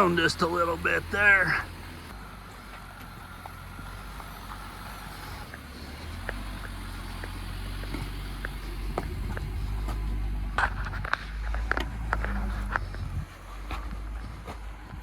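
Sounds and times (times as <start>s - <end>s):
low engine rumble: 0.0s - 15.0s
tires slipping on rock: 0.0s - 15.0s.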